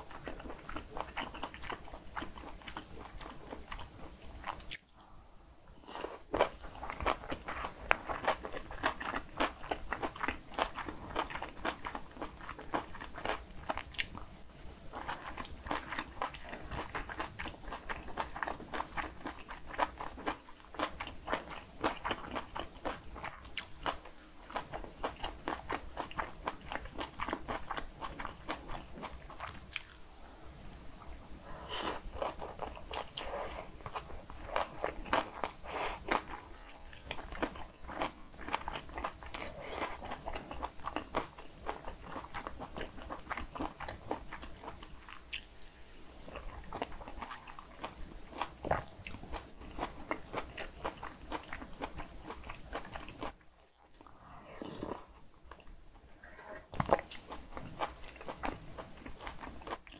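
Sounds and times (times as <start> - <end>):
chewing with crunches and wet clicks: 0.0 - 5.2, 5.9 - 45.6, 46.2 - 55.8, 56.7 - 59.9.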